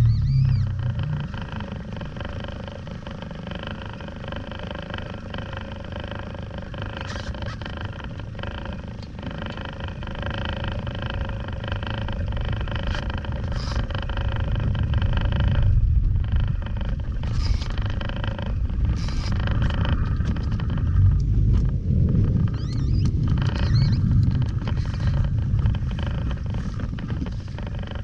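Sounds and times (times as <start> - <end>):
fishing reel whining: 0.0 - 28.0
wind buffeting microphone: 0.0 - 28.0.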